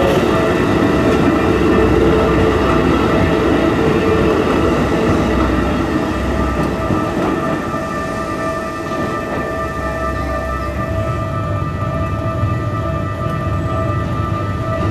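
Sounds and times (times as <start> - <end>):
train cars rumbling past: 0.0 - 14.9.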